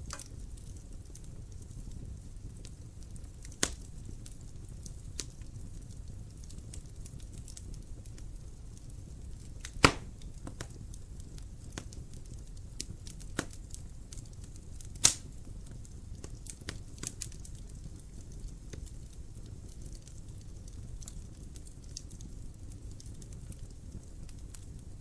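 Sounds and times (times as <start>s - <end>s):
loud sharp pops of fire: 0.0s - 25.0s
wood fire crackling: 0.0s - 25.0s.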